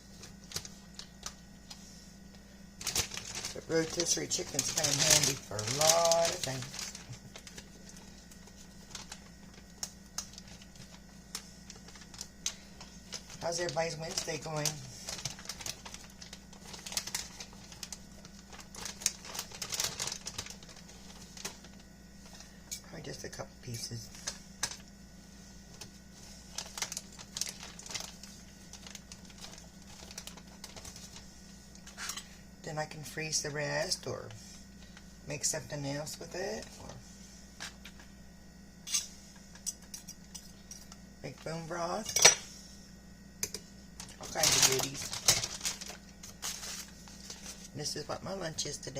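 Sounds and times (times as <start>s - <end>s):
clicks and crinkles handling food: 0.0s - 48.9s
steady low hum: 0.0s - 48.9s.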